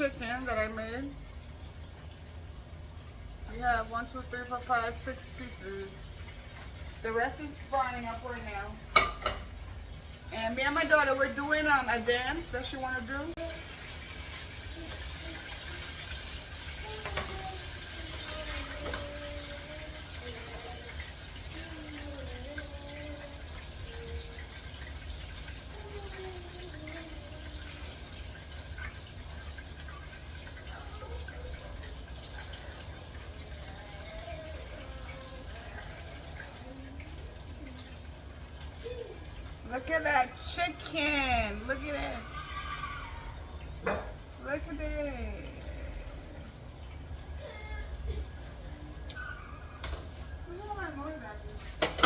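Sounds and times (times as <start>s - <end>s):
oil sizzling: 0.0s - 52.0s.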